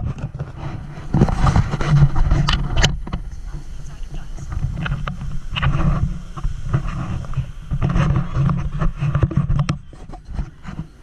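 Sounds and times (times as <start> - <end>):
heavy low rumble: 0.8 - 9.8.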